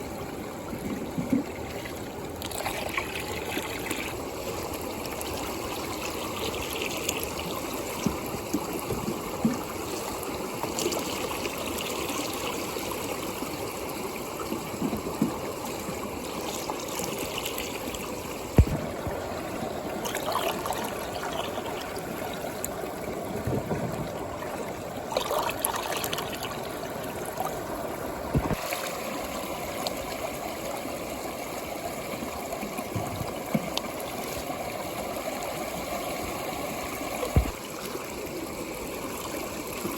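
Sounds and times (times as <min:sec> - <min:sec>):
water swirling and gurgling: 0:00.0 - 0:39.9.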